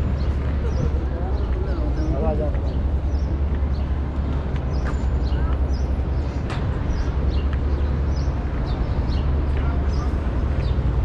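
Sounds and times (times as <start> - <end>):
low city rumble: 0.0 - 11.0
small birds chirping: 0.1 - 11.0.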